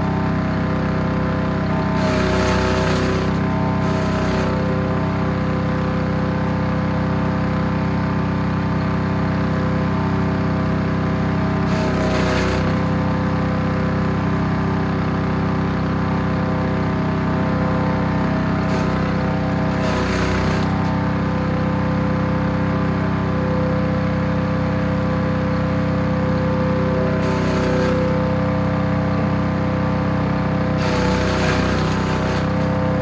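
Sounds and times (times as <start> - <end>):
wood chipper engine running: 0.0 - 33.0.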